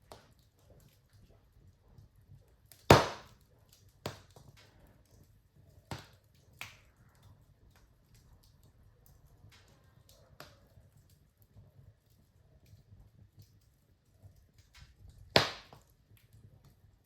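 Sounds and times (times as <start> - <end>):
burning logs popping: 0.0 - 17.0
wood fire crackling: 0.0 - 17.0.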